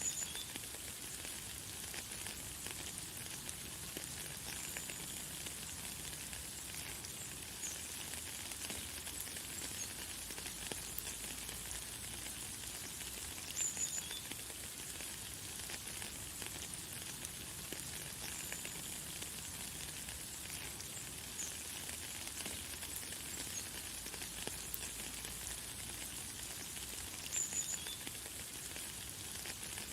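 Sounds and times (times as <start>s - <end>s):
light rain falling: 0.0s - 29.9s.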